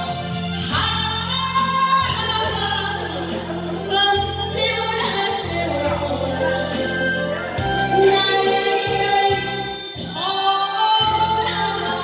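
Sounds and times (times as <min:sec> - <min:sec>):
amplified instrumental accompaniment: 0:00.0 - 0:12.0
woman singing into microphone: 0:00.0 - 0:12.0.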